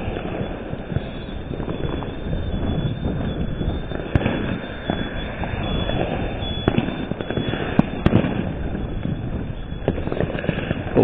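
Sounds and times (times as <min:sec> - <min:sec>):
fireworks bangs: 0:00.0 - 0:11.0
wind rumble on microphone: 0:00.0 - 0:11.0.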